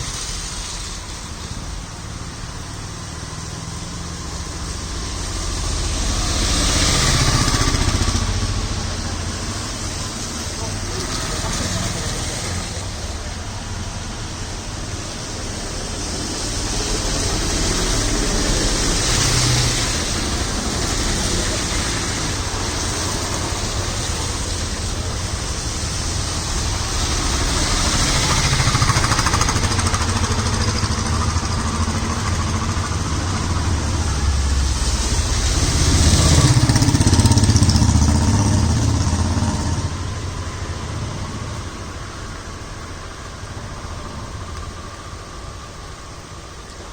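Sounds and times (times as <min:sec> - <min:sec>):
heavy engine rumble: 0:00.0 - 0:46.9
tyres hissing on wet road: 0:00.0 - 0:46.9
vehicles passing: 0:00.0 - 0:46.9.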